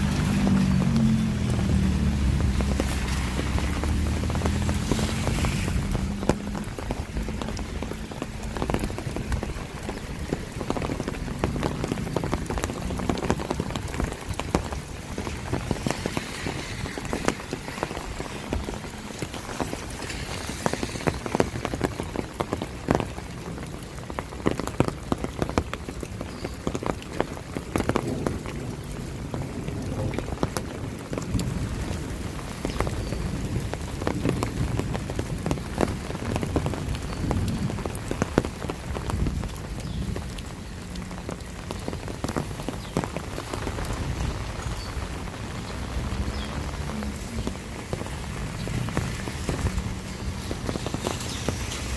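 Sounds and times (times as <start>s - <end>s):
raindrops ticking: 0.0s - 51.9s
steady rain: 0.0s - 51.9s.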